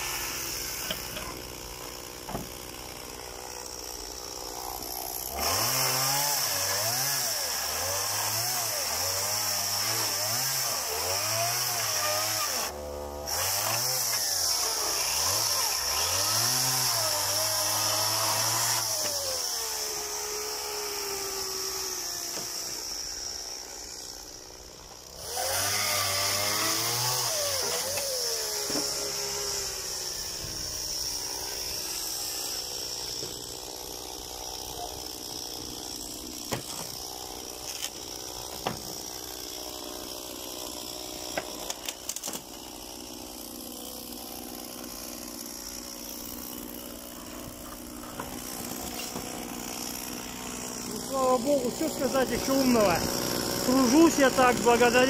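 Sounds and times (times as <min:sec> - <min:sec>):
chainsaw sawing wood: 0:00.0 - 0:55.0.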